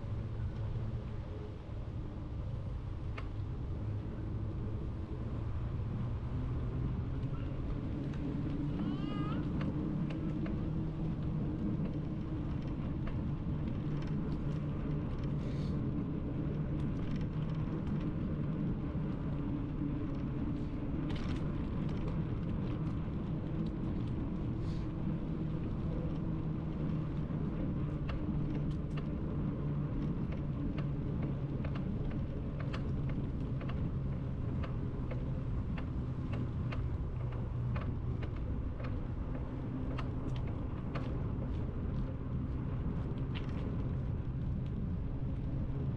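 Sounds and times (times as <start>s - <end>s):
bicycle rumbling on pavement: 0.0s - 45.9s.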